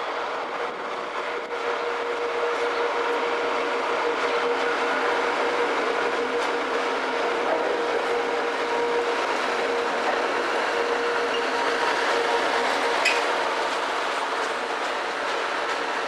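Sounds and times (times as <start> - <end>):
train diesel engines and wheels: 0.0 - 16.0.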